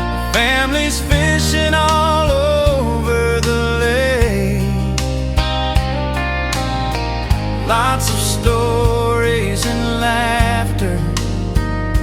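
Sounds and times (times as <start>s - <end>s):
person singing: 0.0s - 5.2s, 7.6s - 12.0s
guitar-backed country music: 0.0s - 12.0s.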